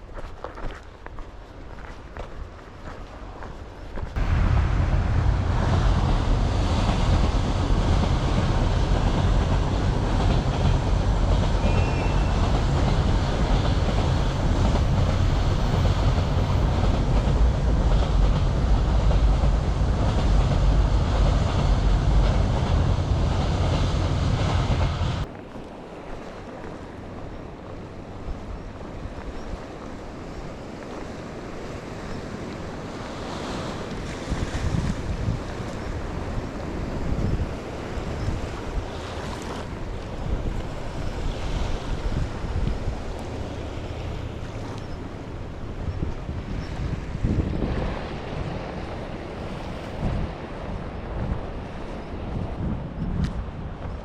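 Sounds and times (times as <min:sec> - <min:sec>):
sea surf: 0:00.0 - 0:54.0
wind buffeting microphone: 0:00.0 - 0:54.0.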